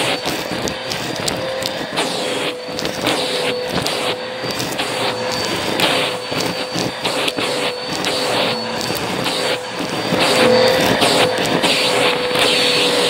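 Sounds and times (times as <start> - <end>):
dry beans clattering up nozzle: 0.0 - 12.9
vacuum cleaner motor whine: 0.0 - 13.0.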